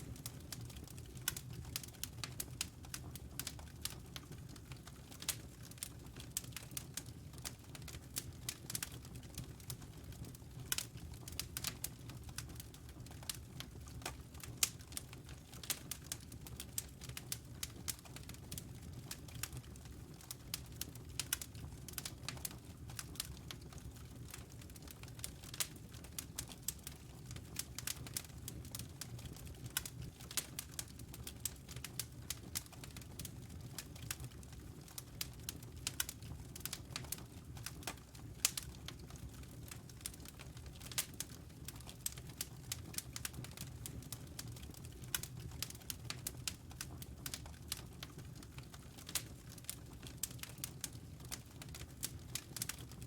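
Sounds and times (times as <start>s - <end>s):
logs crackling and popping: 0.0s - 53.0s
low rumble of flames: 0.0s - 53.0s.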